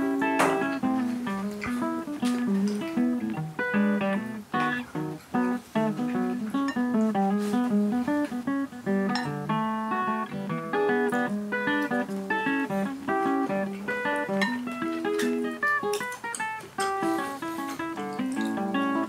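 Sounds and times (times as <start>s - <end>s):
plucked guitar melody: 0.0s - 19.0s.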